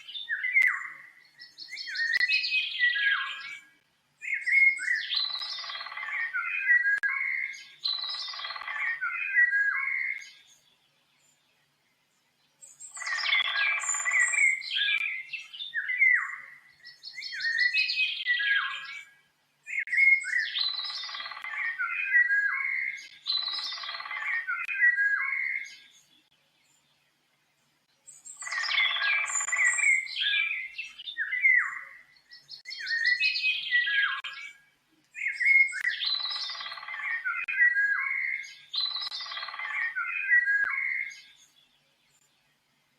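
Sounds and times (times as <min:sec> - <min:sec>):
songbird warbling: 0:00.0 - 0:10.6, 0:12.6 - 0:19.1, 0:19.7 - 0:26.1, 0:28.1 - 0:34.6, 0:35.2 - 0:41.6.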